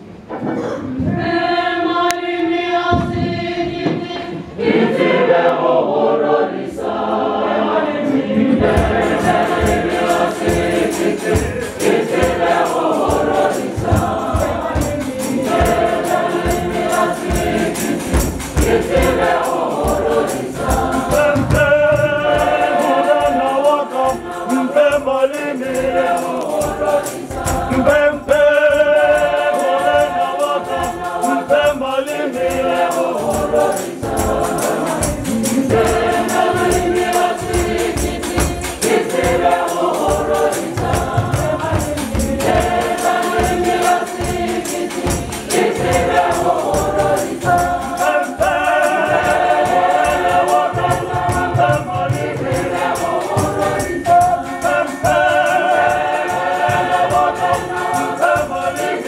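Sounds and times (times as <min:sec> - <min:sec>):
congregation and choir singing a hymn: 0:00.0 - 0:59.0
steady rhythmic beat: 0:01.0 - 0:59.0.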